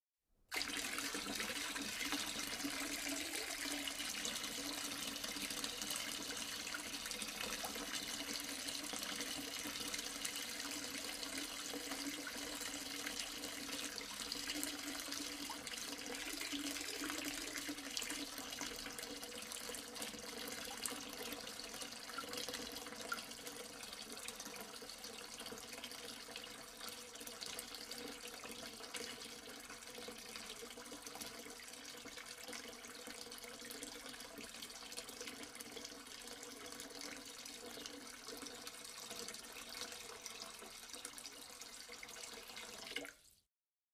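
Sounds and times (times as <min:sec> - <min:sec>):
water pouring into a sink: 0:00.5 - 0:43.4.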